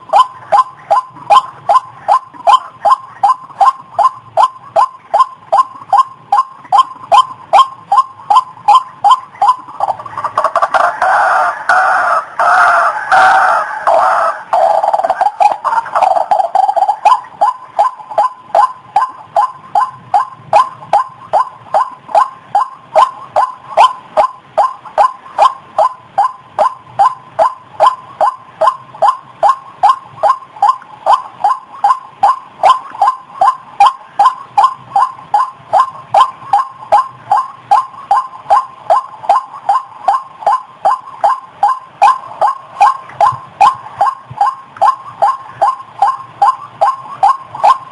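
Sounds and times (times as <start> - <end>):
waterhen calling: 0.0 - 47.9.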